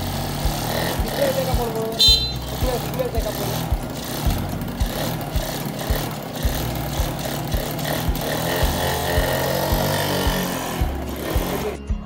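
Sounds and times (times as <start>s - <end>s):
bass line: 0.0s - 12.0s
music with kick-drum beat: 0.4s - 12.0s.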